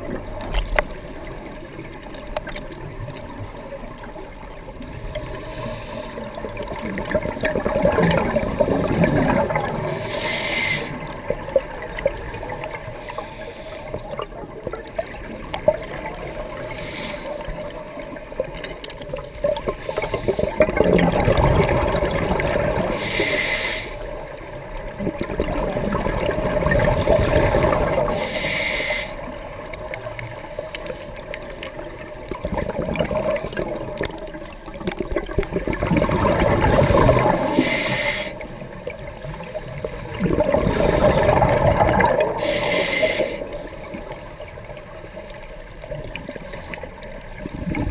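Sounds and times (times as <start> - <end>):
bubbles gurgling underwater: 0.0 - 10.3, 10.9 - 23.3, 24.0 - 28.3, 29.2 - 47.9.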